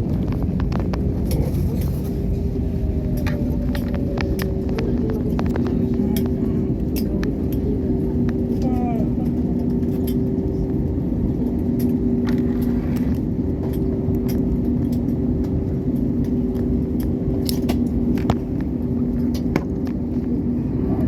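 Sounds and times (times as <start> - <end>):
airliner engine rumble: 0.0 - 21.0.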